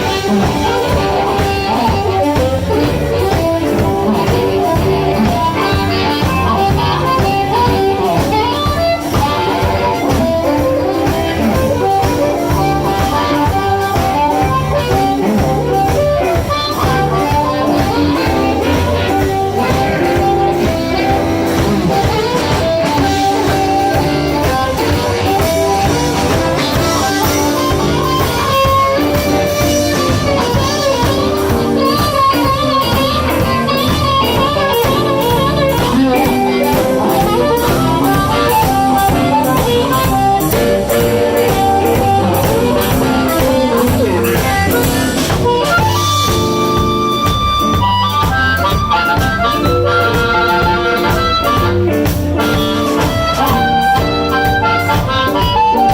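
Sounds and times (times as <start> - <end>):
bass: 0.0 - 55.9
drums: 0.0 - 55.9
melodic lead line: 0.0 - 55.9.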